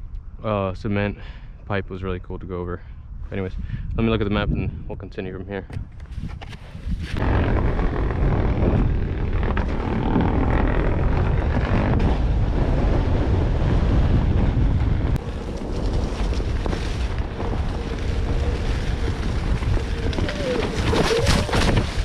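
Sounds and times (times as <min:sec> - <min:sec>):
wind buffeting microphone: 0:03.1 - 0:22.0.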